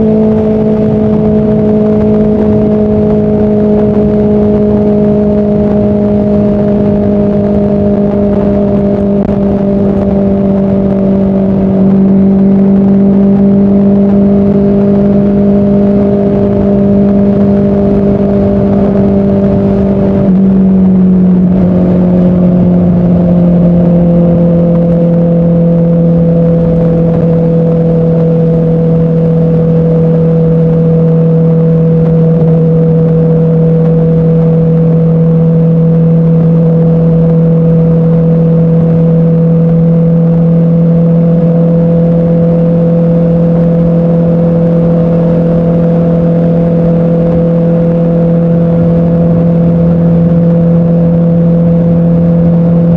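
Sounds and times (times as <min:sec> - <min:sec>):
motorcycle engine cruising: 0:00.0 - 0:52.9
road noise: 0:00.0 - 0:52.9.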